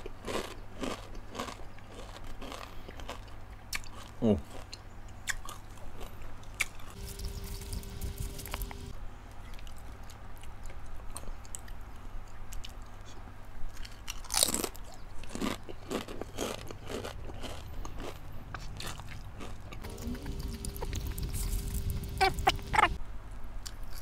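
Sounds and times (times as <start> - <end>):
crunchy snack being chewed: 0.0 - 8.9, 9.5 - 23.0, 23.6 - 24.0.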